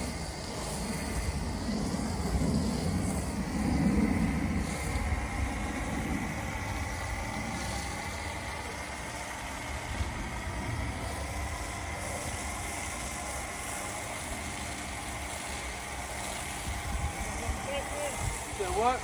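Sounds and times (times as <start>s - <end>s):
pressure washer spraying water: 0.0s - 19.0s.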